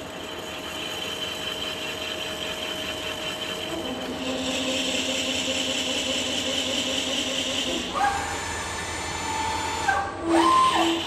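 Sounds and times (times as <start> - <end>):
milling machine whine: 0.0 - 11.0.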